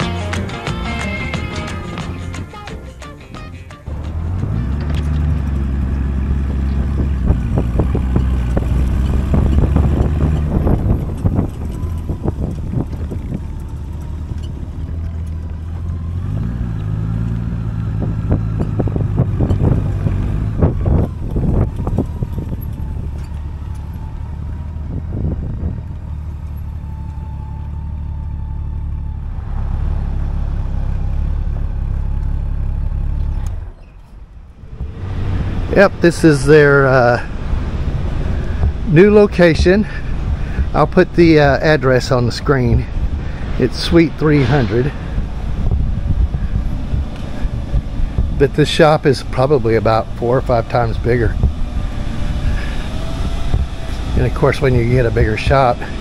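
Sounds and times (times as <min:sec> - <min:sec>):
motorcycle engine running: 0:00.0 - 0:33.8, 0:44.2 - 0:56.0
wind buffeting microphone: 0:04.3 - 0:27.4, 0:33.6 - 0:56.0.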